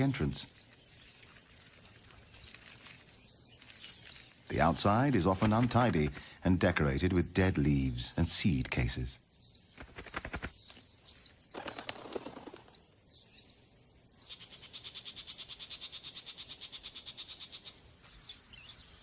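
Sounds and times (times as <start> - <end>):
songbird chirps and trill: 0.0 - 19.0.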